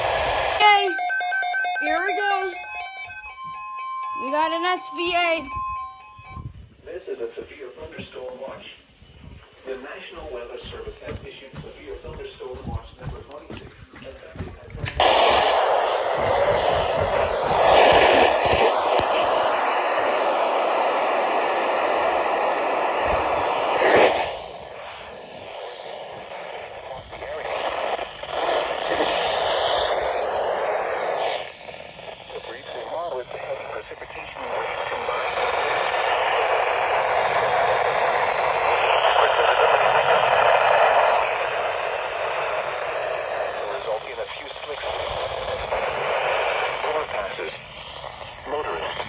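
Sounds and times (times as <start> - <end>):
radio static hiss: 0.0 - 0.9, 1.8 - 5.8, 6.6 - 49.0.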